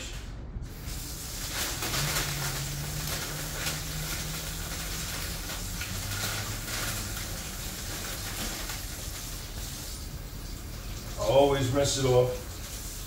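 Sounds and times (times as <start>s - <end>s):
faucet running into sink: 0.7s - 13.0s.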